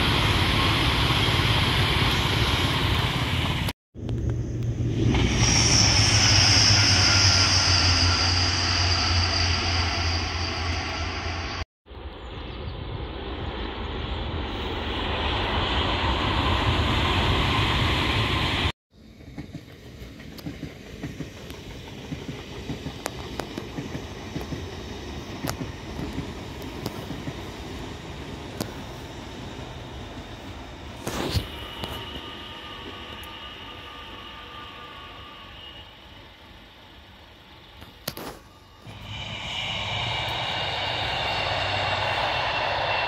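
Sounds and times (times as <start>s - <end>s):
train rushing rumble: 0.0s - 11.7s, 12.7s - 38.0s, 38.7s - 43.0s.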